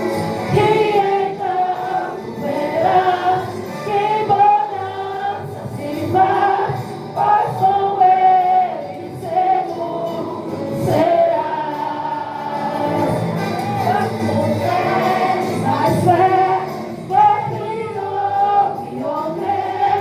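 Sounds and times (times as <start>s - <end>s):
group of young voices singing: 0.0s - 20.0s
musical accompaniment: 0.0s - 20.0s.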